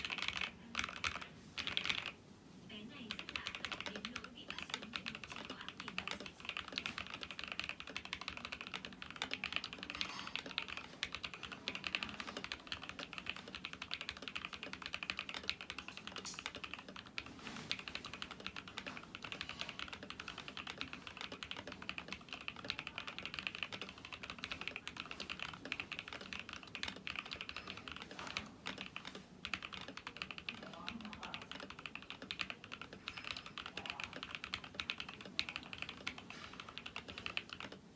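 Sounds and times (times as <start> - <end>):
mechanical keyboard typing: 0.0 - 37.9.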